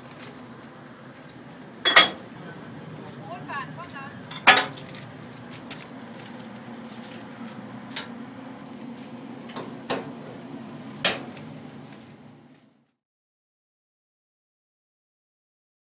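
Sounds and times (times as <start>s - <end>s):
electric locomotive humming: 0.0s - 13.0s.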